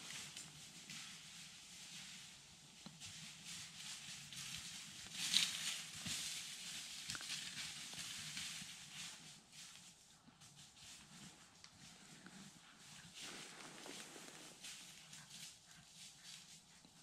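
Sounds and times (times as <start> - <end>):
footsteps on dry pine needles and leaves: 0.6 - 16.6.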